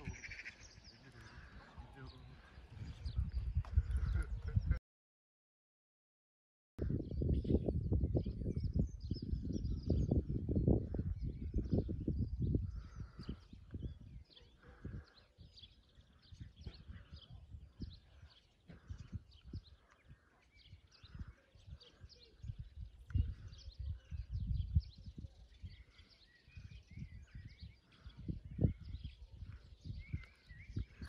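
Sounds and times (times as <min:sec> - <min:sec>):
birds chirping and singing: 0:00.0 - 0:04.8, 0:06.8 - 0:31.0.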